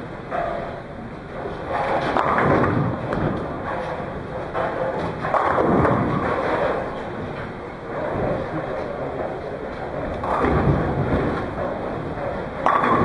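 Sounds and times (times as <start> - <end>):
bowling balls rolling and thudding: 0.3 - 13.0
bowling pins clicking: 1.7 - 13.0.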